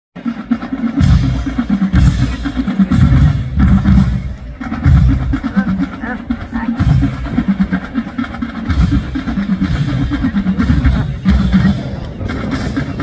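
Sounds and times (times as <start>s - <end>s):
rapid snare drum pattern: 0.2s - 13.0s.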